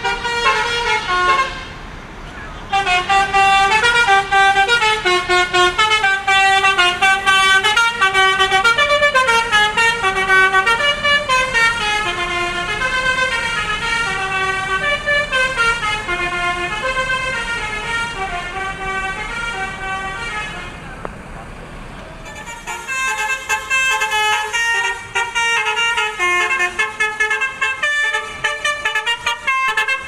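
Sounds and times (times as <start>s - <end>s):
bus horn playing melody: 0.0s - 21.0s, 22.2s - 30.0s.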